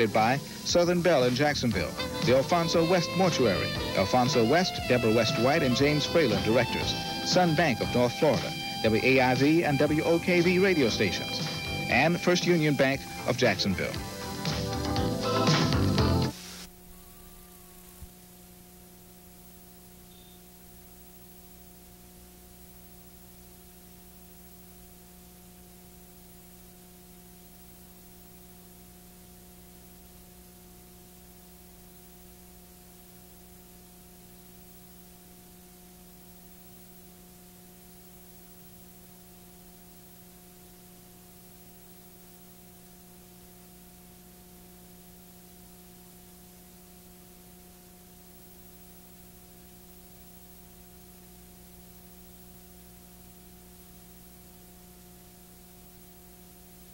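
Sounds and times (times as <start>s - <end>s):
faint electrical hum: 0.0s - 56.9s
tape hiss: 0.0s - 56.9s.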